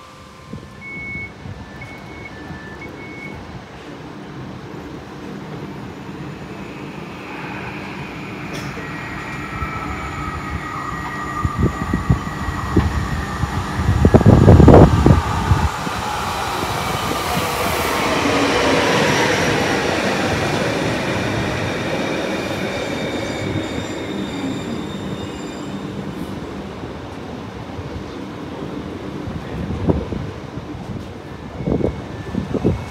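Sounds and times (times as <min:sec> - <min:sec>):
train wheel and brake noise: 0:00.0 - 0:28.2, 0:28.9 - 0:32.9.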